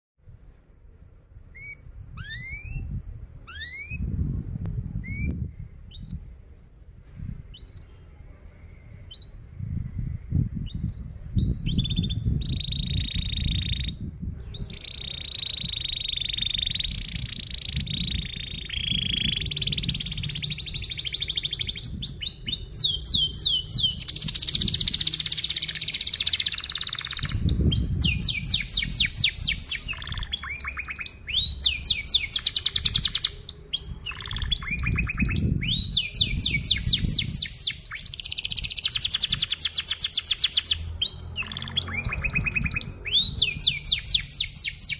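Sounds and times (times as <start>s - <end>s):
canary singing: 1.5s - 4.1s, 10.6s - 44.9s.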